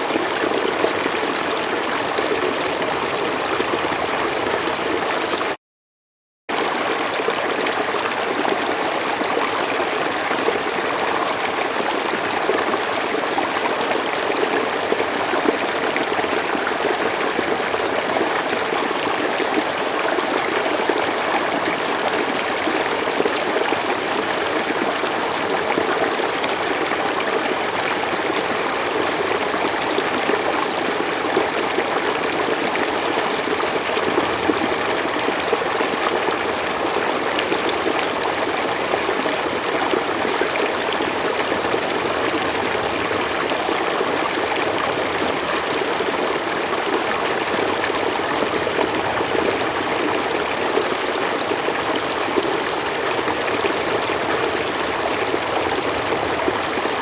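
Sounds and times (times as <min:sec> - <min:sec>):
river water flowing over rocks: 0:00.0 - 0:05.6, 0:06.5 - 0:57.0.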